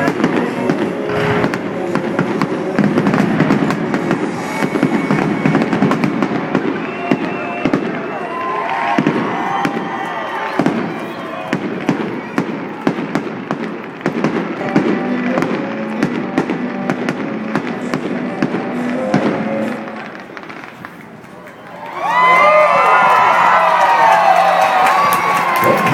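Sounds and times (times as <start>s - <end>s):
fireworks bangs and crackles: 0.0s - 25.9s
music playing: 0.0s - 25.9s.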